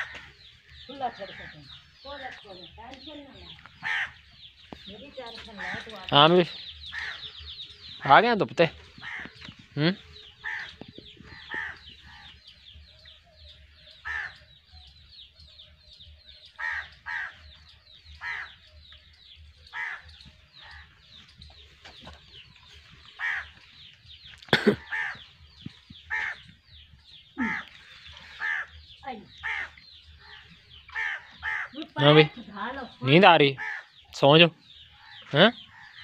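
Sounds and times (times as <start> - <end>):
loud bird calls: 0.0 - 36.0
small birds twittering: 0.0 - 36.0.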